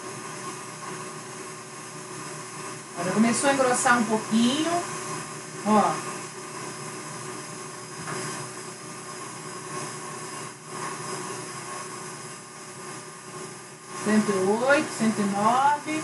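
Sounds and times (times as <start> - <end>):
stand mixer whisking: 0.0 - 16.0.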